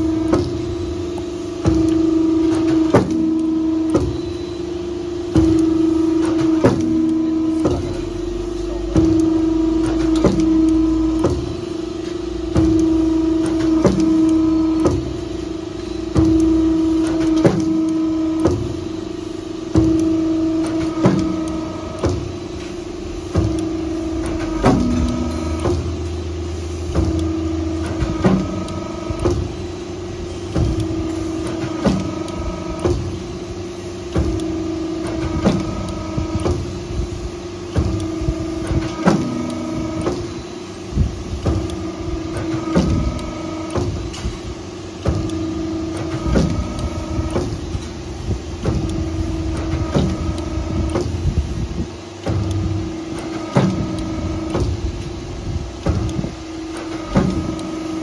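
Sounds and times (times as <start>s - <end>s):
hydraulic pump humming: 0.0s - 58.0s
machine whine: 0.0s - 58.0s.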